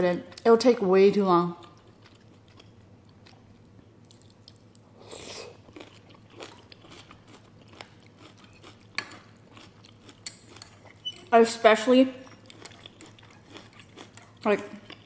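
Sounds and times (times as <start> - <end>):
chewing noodles: 1.6 - 11.4, 12.1 - 15.0.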